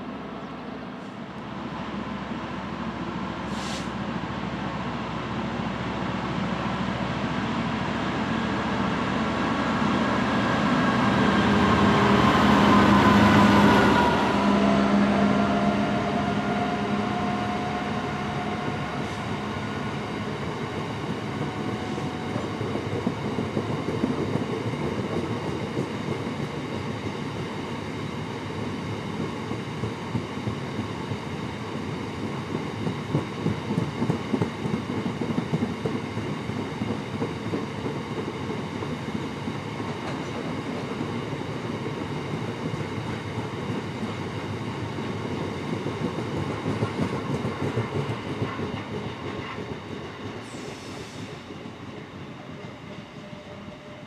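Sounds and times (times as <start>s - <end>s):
diesel locomotive engine passing: 0.0s - 54.0s.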